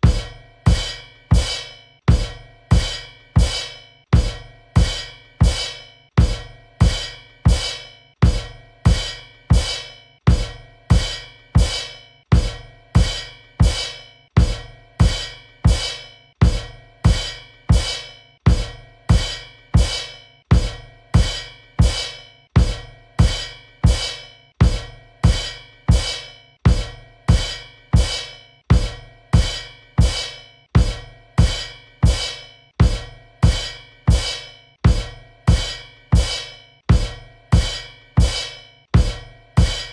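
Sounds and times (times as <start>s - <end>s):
bass drum and cymbal hits: 0.0s - 39.9s.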